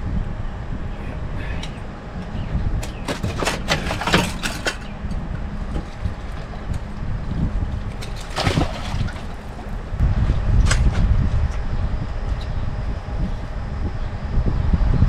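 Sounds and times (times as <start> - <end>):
boat motor hum: 0.0 - 15.0
wind buffeting microphone: 0.0 - 15.0.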